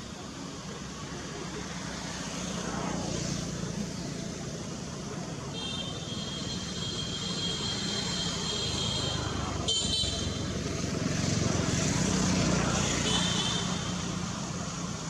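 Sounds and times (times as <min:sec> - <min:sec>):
vehicle traffic noise: 0:00.0 - 0:15.0.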